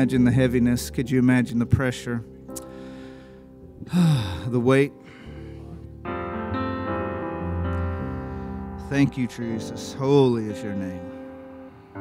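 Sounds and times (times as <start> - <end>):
keyboard playing soft chords: 0.0 - 12.0.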